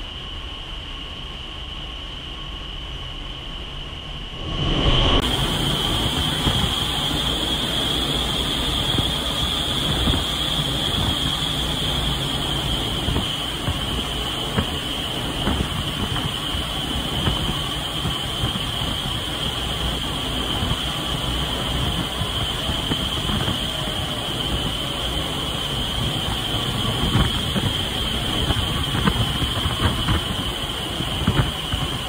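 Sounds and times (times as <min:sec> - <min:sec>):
high even whine: 0:00.0 - 0:32.0
wind tunnel air rushing: 0:00.0 - 0:32.0
low rumble: 0:03.4 - 0:32.0.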